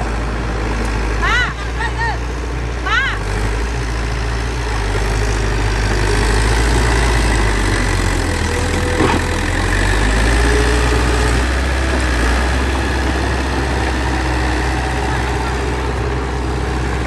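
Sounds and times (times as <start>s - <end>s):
bulldozer diesel engine droning: 0.0s - 17.0s.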